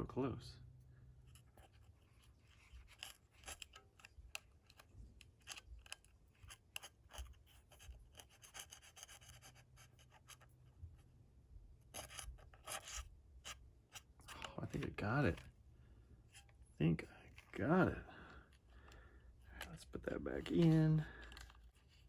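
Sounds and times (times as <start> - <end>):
tool scraping calculator parts: 1.2 - 10.5, 11.9 - 15.6, 16.3 - 16.7, 17.3 - 22.0.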